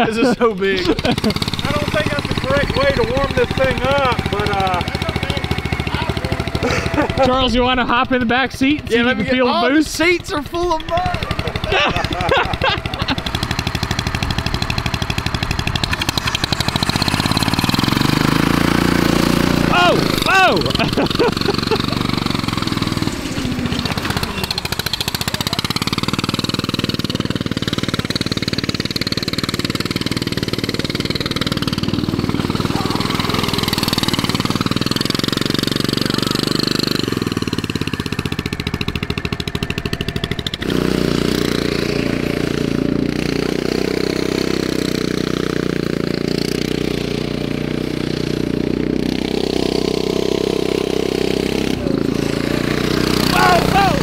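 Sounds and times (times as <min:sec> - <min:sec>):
go-kart engine running: 0:00.0 - 0:54.0.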